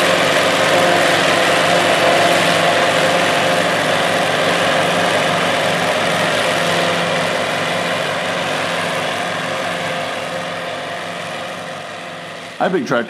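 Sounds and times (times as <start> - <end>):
chopped crop rushing: 0.0 - 12.6
harvester engine drone: 0.0 - 13.0
tractor engine: 0.0 - 13.0.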